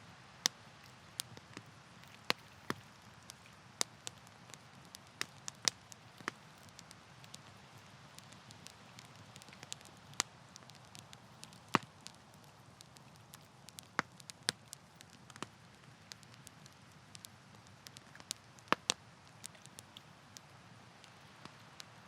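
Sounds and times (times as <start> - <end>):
burning wood popping: 0.4 - 22.0.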